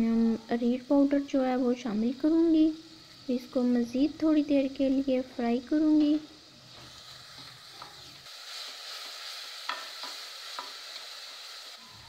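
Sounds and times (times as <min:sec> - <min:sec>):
spices sizzling in oil: 0:00.0 - 0:12.0.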